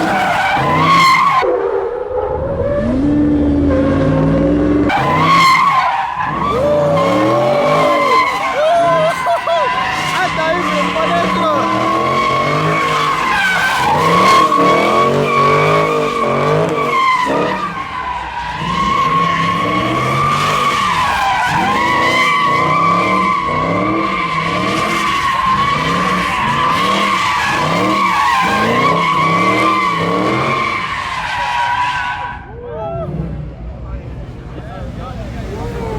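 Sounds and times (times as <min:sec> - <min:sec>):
tyres squealing: 0:00.0 - 0:01.4, 0:04.9 - 0:32.5
car engine revving: 0:00.0 - 0:35.9.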